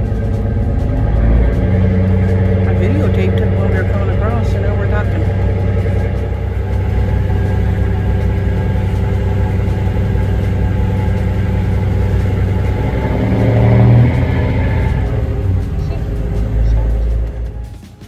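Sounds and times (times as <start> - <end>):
ship machinery humming: 0.0 - 18.0.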